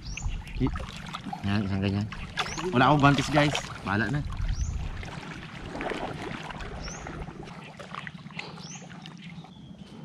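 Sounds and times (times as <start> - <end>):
muddy water sloshing: 0.0 - 10.0.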